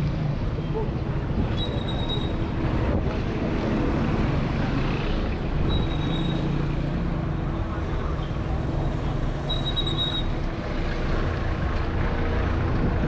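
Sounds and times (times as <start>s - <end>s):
car and motorbike engines: 0.0s - 13.0s.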